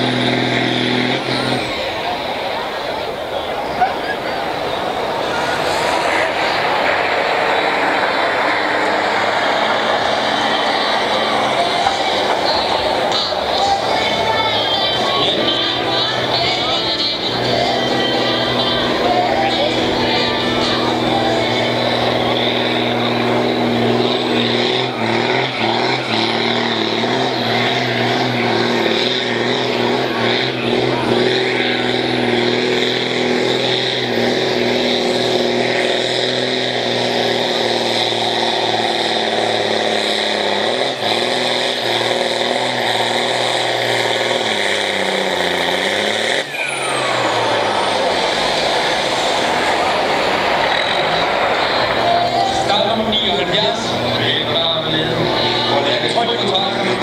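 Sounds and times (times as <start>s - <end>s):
falling whine: 0.0s - 57.0s
tractor diesel engine labouring: 0.0s - 57.0s.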